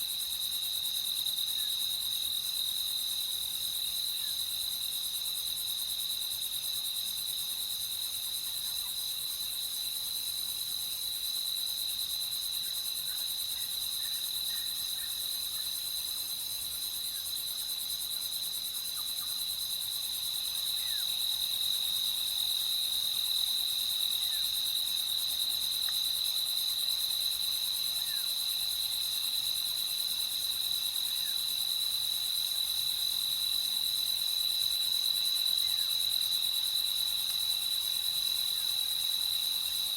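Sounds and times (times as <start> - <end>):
crickets chirping: 0.0 - 39.9
faint insect or frog calls: 0.0 - 39.9.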